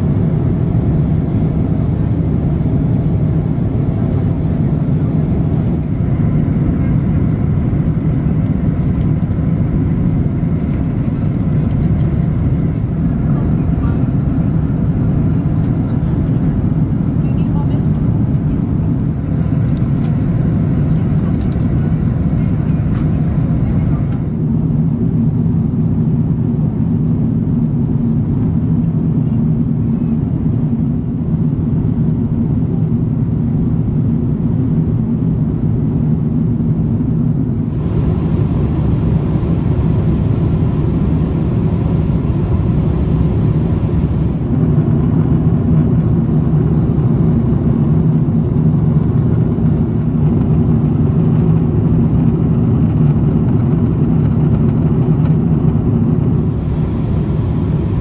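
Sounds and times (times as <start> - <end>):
aircraft cabin engine rumble: 0.0 - 58.0
faint hum: 0.0 - 58.0.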